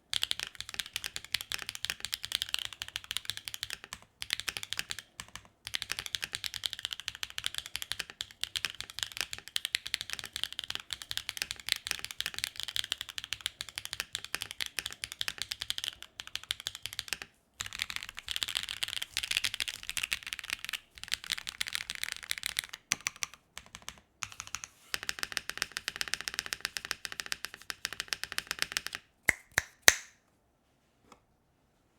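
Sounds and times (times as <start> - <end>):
mechanical keyboard typing: 0.1 - 29.0.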